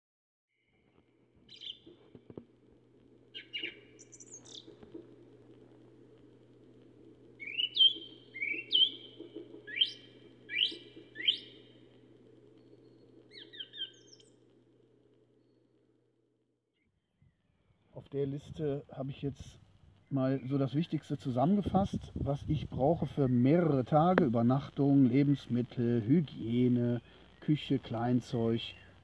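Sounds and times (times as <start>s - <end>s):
songbirds singing: 0.5s - 2.3s, 3.0s - 14.6s, 19.0s - 29.0s
faint low hum: 0.6s - 29.0s.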